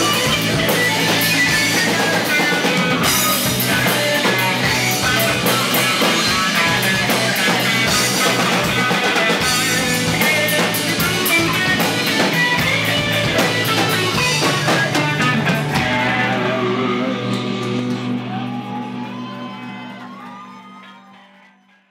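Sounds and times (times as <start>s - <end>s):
drum kit: 0.0s - 20.6s
strummed electric guitar: 0.0s - 21.2s.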